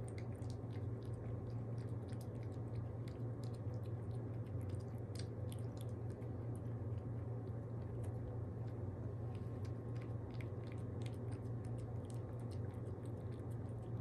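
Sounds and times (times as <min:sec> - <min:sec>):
pet chewing and licking food: 0:00.0 - 0:14.0
steady low hum: 0:00.0 - 0:14.0.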